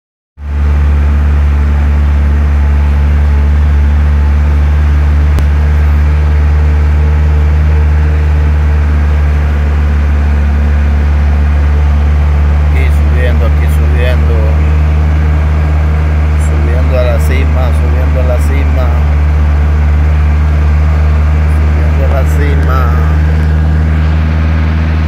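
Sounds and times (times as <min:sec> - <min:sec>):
car engine and road noise: 0:00.4 - 0:25.0.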